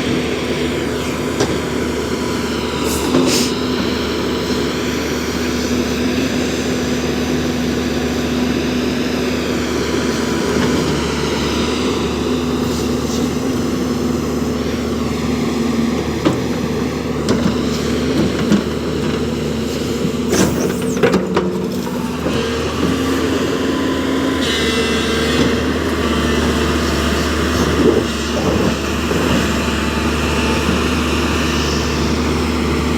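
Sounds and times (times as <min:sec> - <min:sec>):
diesel engine running: 0:00.0 - 0:32.9
hydraulic whine: 0:00.0 - 0:32.9.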